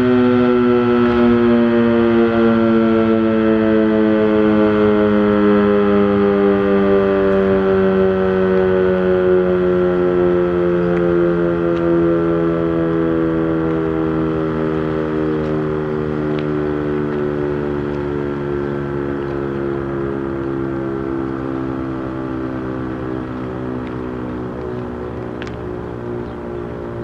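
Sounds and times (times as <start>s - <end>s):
warning siren winding down: 0.0s - 27.0s.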